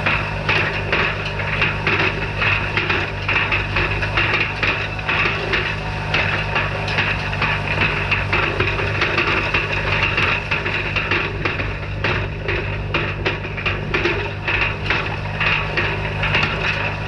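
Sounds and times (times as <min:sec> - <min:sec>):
hay rake clattering: 0:00.0 - 0:17.0
tractor engine running: 0:00.0 - 0:17.0.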